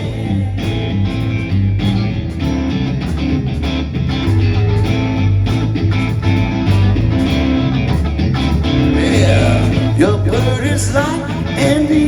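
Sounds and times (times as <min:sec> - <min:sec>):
bass notes: 0:00.0 - 0:12.0
strummed guitar: 0:00.0 - 0:12.0.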